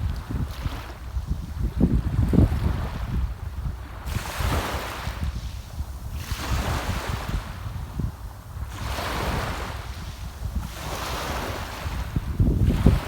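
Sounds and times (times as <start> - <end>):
sea waves washing ashore: 0.0 - 13.0
wind buffeting microphone: 0.0 - 13.0.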